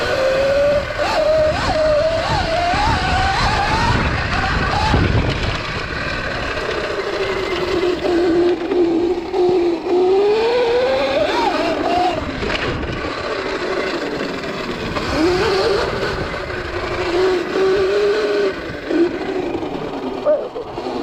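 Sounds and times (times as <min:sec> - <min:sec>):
electric dirt bike motor whine: 0:00.0 - 0:21.0.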